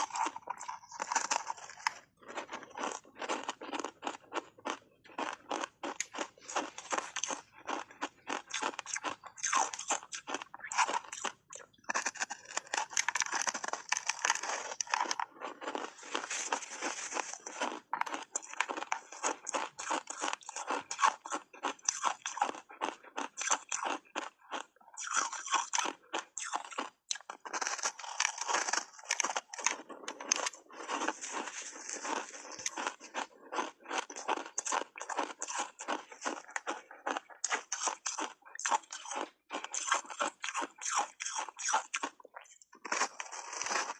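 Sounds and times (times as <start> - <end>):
ice crunching while chewed: 0.0 - 43.9.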